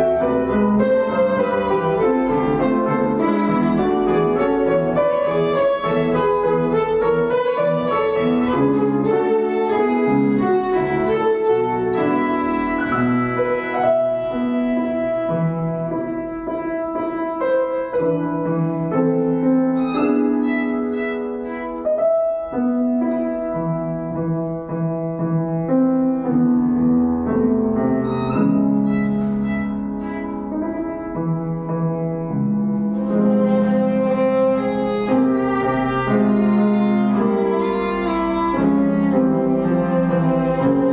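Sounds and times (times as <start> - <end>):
bowed string melody: 0.0 - 17.2, 18.2 - 24.1, 27.6 - 31.3, 32.2 - 40.9
piano accompaniment: 0.0 - 40.9.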